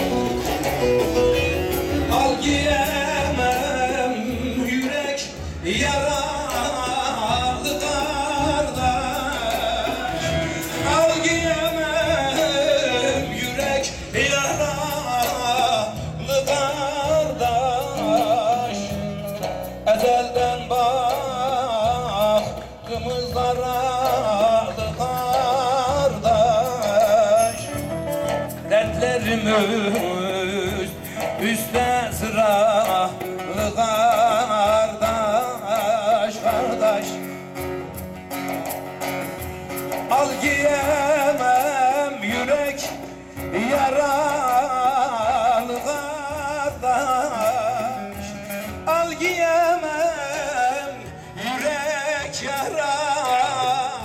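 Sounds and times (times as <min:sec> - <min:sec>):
man singing folk song: 0:00.0 - 0:38.7, 0:39.4 - 0:54.0
lute playing: 0:00.0 - 0:54.0.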